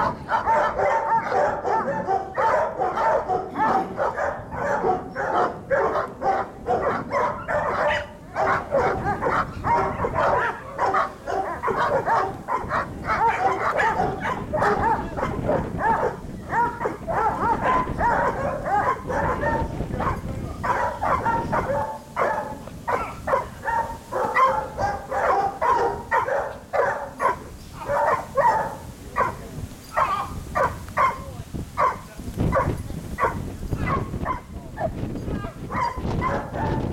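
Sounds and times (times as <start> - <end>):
dog barking: 0.0 - 35.0, 35.7 - 36.9.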